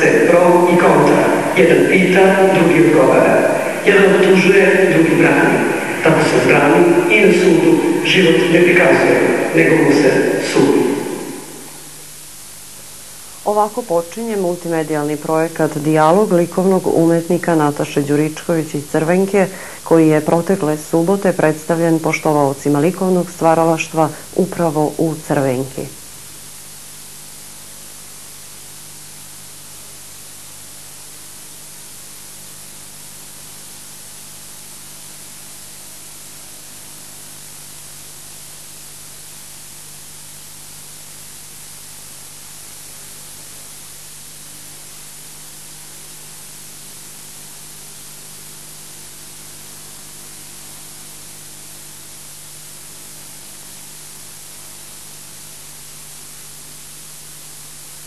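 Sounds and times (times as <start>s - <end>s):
faint low hum: 0.0s - 58.0s
tape hiss: 0.0s - 58.0s.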